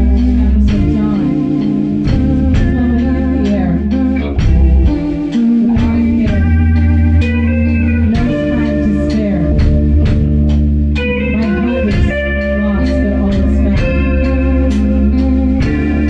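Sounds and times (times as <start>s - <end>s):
bass: 0.0s - 16.0s
drums keeping a steady beat: 0.0s - 16.0s
guitar and keyboard chords: 0.0s - 16.0s.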